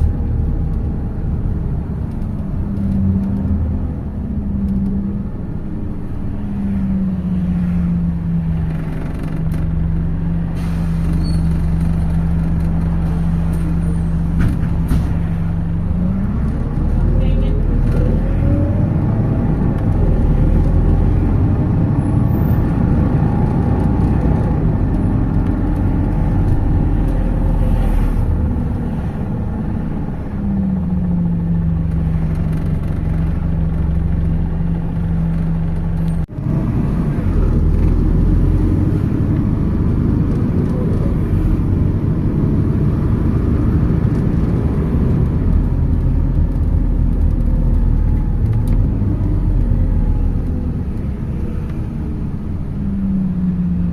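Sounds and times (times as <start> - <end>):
bus engine and road rumble: 0.0 - 53.9.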